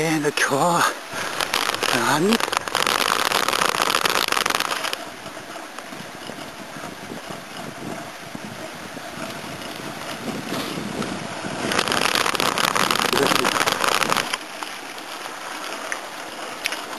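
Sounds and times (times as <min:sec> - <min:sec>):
wind buffeting microphone: 0:01.0 - 0:14.6.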